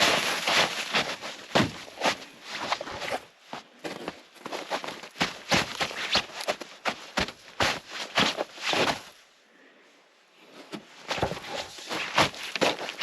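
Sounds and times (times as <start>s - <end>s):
snow crunching: 0.0s - 3.2s, 3.8s - 9.2s, 11.1s - 13.0s.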